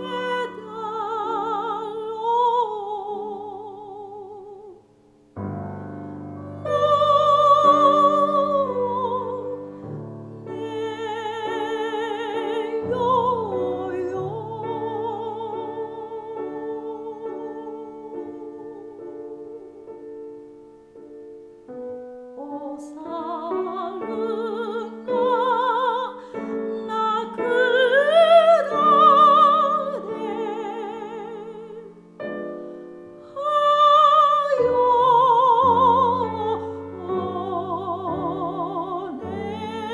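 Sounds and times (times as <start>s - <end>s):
piano accompaniment: 0.0s - 39.9s
soprano singing classical song: 0.0s - 39.9s.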